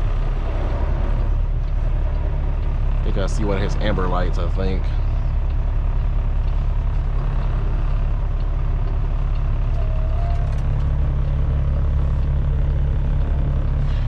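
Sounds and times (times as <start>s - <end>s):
truck diesel engine idling: 0.0s - 14.0s.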